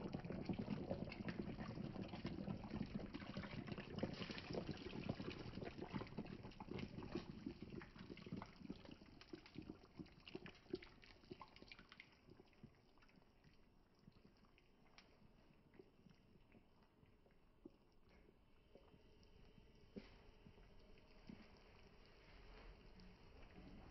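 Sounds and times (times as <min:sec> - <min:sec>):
milk pouring into a pot: 0:00.0 - 0:23.9.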